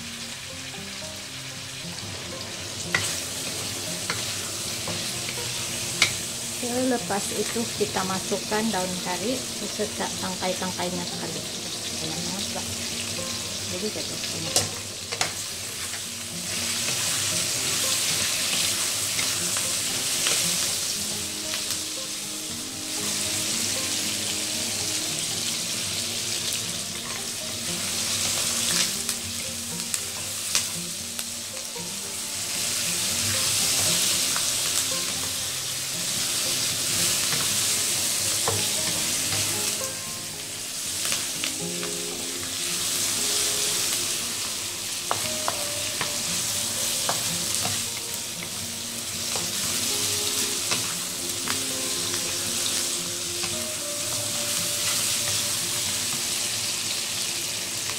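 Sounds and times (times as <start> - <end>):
vegetables sizzling in oil: 0.0 - 57.9.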